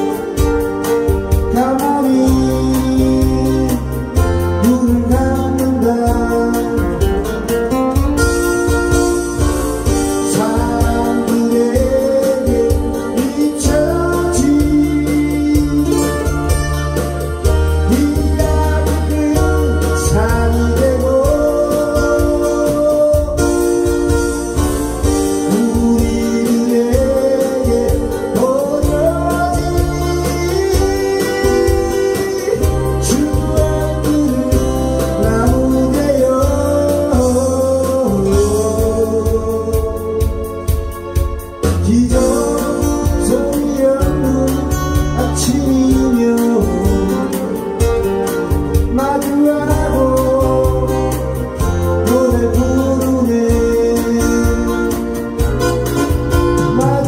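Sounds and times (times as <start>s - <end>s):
acoustic guitar strumming: 0.0s - 57.0s
backing track bass line: 0.0s - 57.0s
man singing a pop ballad: 0.0s - 57.0s.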